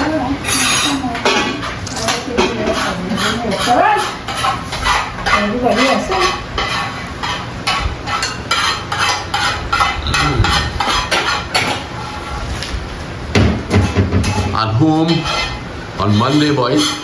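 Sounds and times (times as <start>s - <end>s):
dishes and cutlery clattering: 0.4s - 12.2s, 13.4s - 17.0s.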